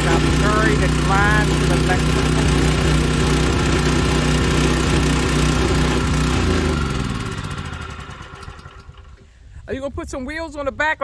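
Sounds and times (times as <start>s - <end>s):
backhoe engine running: 0.0s - 9.3s.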